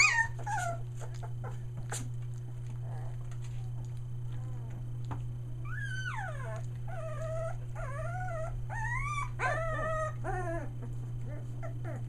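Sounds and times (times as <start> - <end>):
low hum: 0.0 - 12.0
puppies whining and crying: 0.0 - 12.0.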